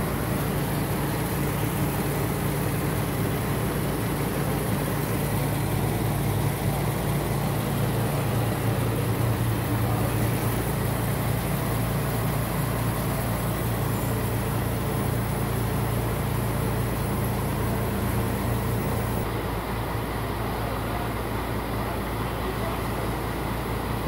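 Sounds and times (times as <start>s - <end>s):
car engine idling: 0.0s - 19.3s.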